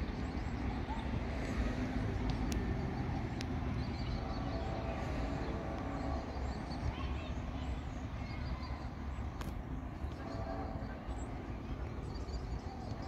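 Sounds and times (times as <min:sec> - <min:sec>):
distant voices: 0:00.0 - 0:13.0
small birds chirping: 0:00.0 - 0:13.0.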